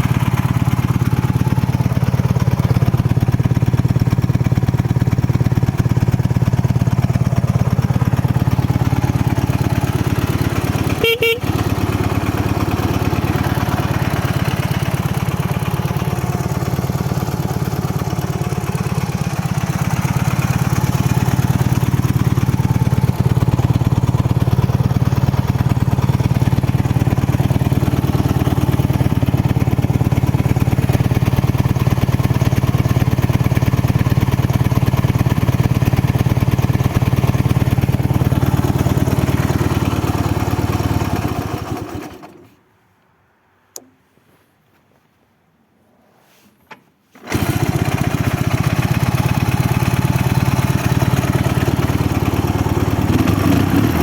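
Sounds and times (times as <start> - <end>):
motorcycle engine idling: 0.0 - 42.5, 47.2 - 54.0.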